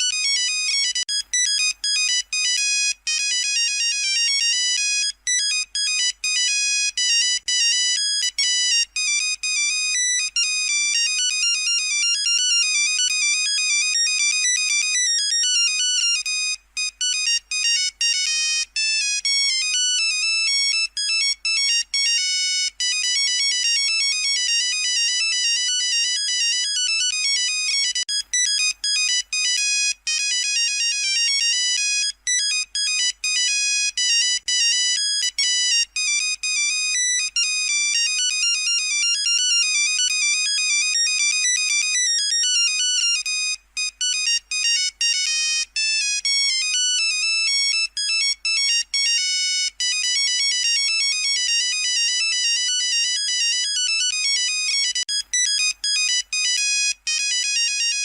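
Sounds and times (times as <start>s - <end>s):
monophonic phone ringtone beeping: 0.0s - 58.0s.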